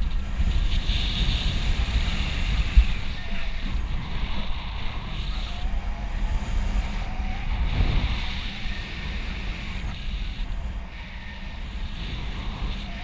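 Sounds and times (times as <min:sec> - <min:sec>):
wind roaring over microphone: 0:00.0 - 0:13.0.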